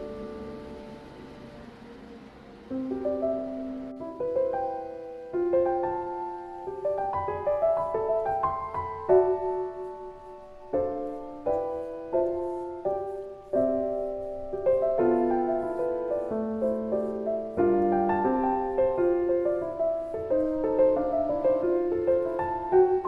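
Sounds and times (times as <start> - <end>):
soft solo piano music: 0.0 - 1.8, 2.7 - 23.0.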